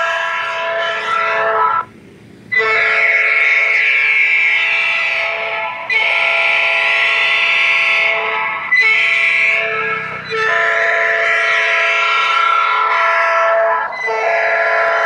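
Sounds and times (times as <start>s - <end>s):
electronic train horn blasts: 0.0s - 1.9s, 2.5s - 15.0s.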